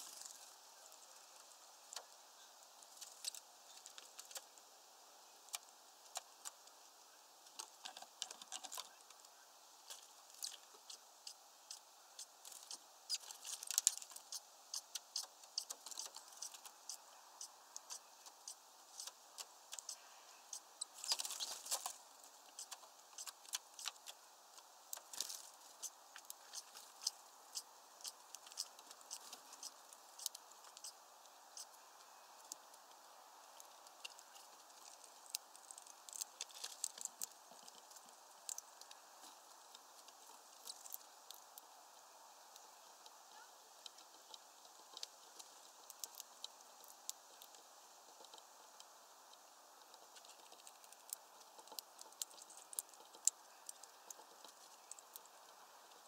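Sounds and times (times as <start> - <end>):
beaks tapping on seed and tray: 0.0 - 4.6, 5.4 - 6.7, 7.4 - 41.6, 42.5 - 56.0.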